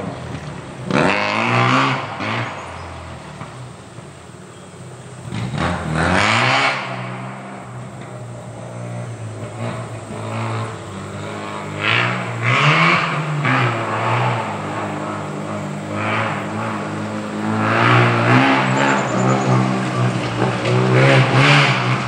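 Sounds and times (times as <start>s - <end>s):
rotary engine revving: 0.0s - 22.0s.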